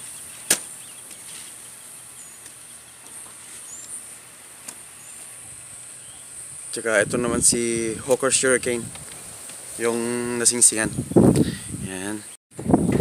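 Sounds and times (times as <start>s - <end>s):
high-pitched hiss: 0.0s - 12.2s.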